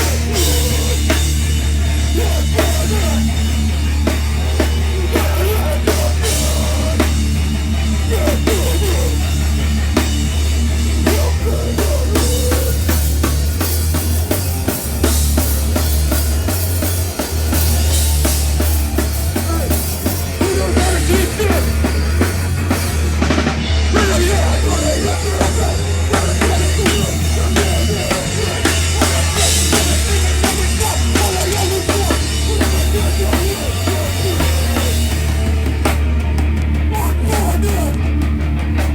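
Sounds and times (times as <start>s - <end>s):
drum kit hammering: 0.0s - 38.9s
live heavy band playing: 0.0s - 38.9s.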